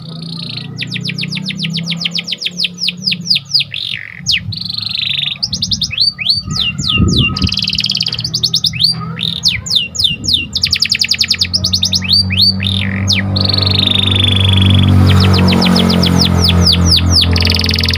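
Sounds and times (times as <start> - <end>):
canary singing: 0.0 - 17.9.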